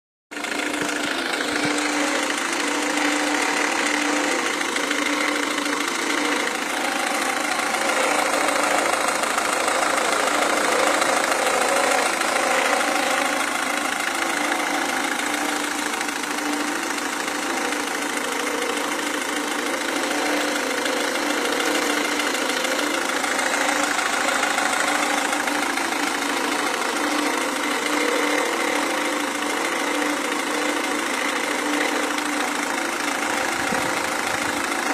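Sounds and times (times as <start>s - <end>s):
diesel engine idling: 0.3s - 34.9s.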